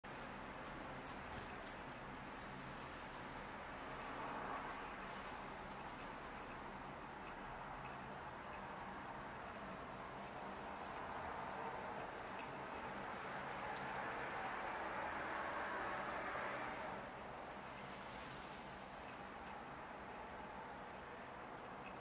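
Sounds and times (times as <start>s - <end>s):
faint background noise: 0.0s - 22.0s.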